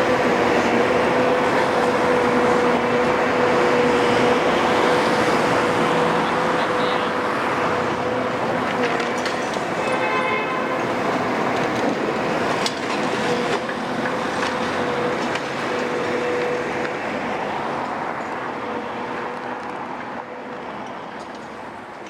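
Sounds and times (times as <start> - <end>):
excavator diesel engine and hydraulics: 0.0 - 22.0.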